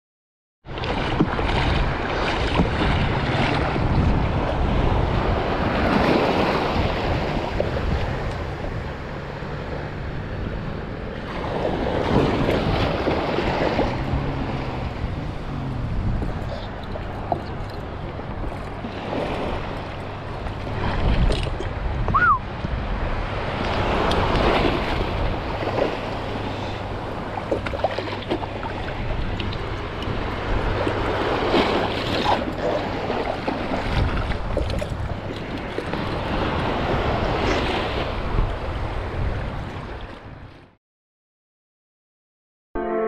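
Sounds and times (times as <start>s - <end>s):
wind rumbling on microphone: 0.6s - 40.8s
sea water lapping: 0.7s - 40.7s.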